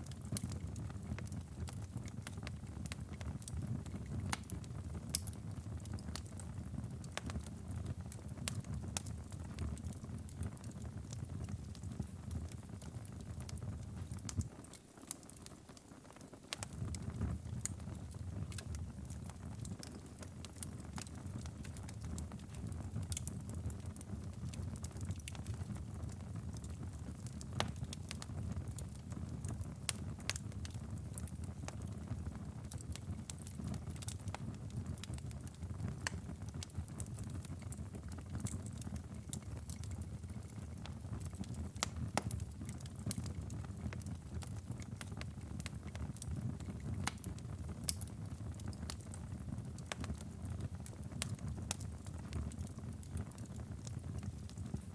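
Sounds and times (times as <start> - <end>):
low fire rumble: 0.0 - 15.9, 16.5 - 54.9
wood fire crackling and popping: 0.0 - 54.9.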